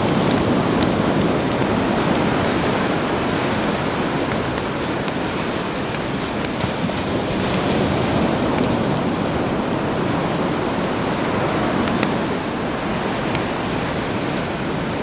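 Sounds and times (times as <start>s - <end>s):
campfire crackling: 0.0s - 15.0s
sea waves washing in: 0.0s - 15.0s.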